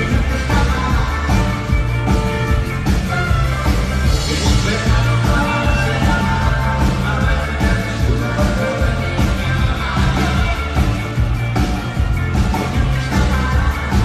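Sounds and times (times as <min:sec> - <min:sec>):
live pop-rock band playing: 0:00.0 - 0:14.0
person singing: 0:00.0 - 0:14.0.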